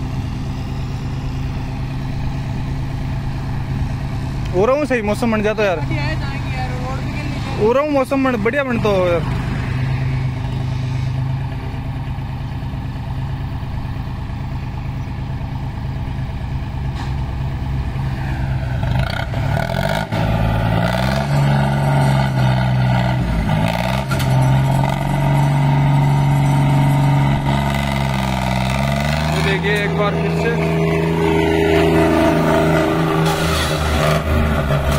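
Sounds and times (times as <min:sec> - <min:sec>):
tractor diesel engine idling and revving: 0:00.0 - 0:34.9.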